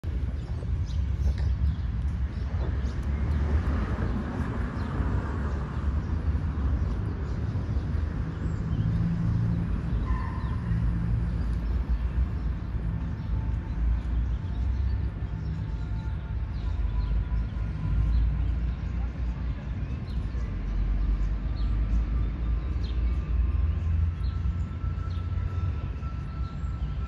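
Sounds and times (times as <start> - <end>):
low traffic rumble: 0.0 - 27.0.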